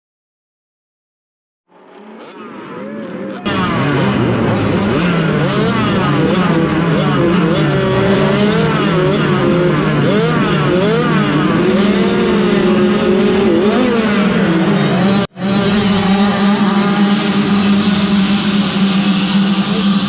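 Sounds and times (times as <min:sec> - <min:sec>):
motocross bike engines revving: 0:01.7 - 0:20.0.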